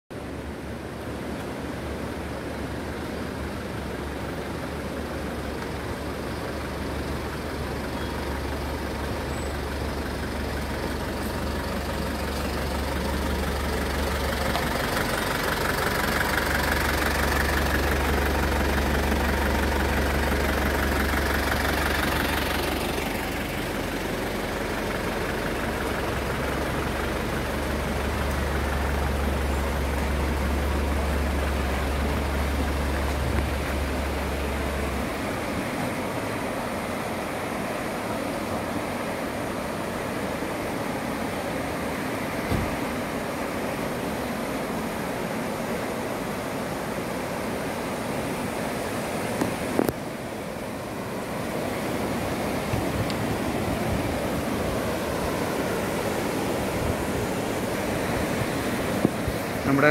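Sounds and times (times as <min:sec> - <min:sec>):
engine idling: 0:02.0 - 0:59.9.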